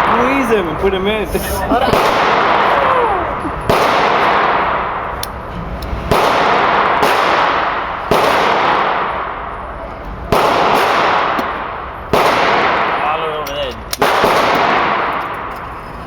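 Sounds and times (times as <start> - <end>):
pistol shots echoing: 1.8 - 15.6.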